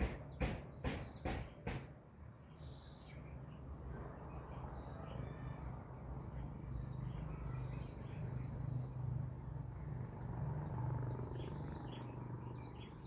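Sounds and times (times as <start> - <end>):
birds chirping: 0.0 - 5.6, 6.2 - 13.0.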